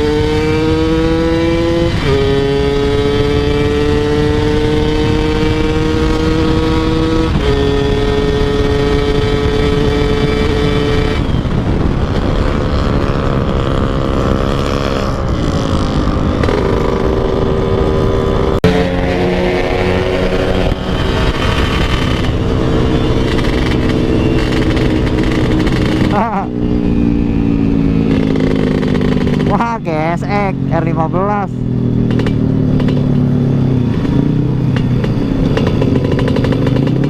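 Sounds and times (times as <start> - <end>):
motorcycle engine running: 0.0 - 37.0
wind rush on microphone: 0.0 - 37.0.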